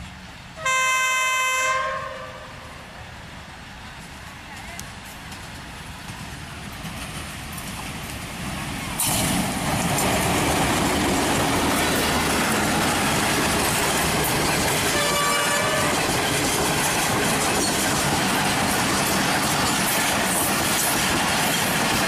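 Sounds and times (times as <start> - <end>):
coaches rolling on rails: 0.0 - 22.0
diesel train passing at speed: 0.0 - 22.0.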